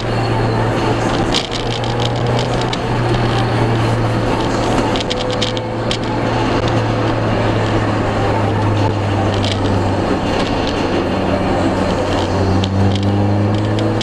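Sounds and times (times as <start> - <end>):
car engine drone: 0.0 - 14.0
road and wind rush: 0.0 - 14.0.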